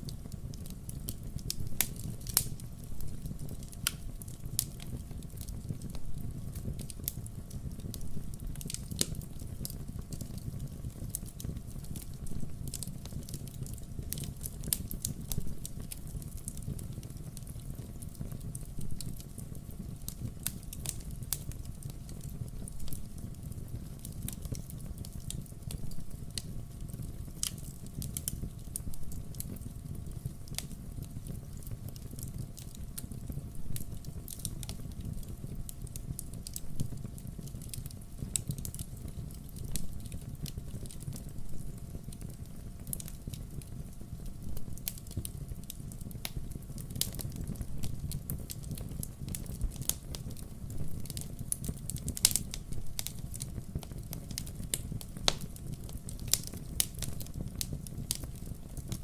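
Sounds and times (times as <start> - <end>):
crackles and pops of logs: 0.0 - 59.0
low rush of flames: 0.0 - 59.0.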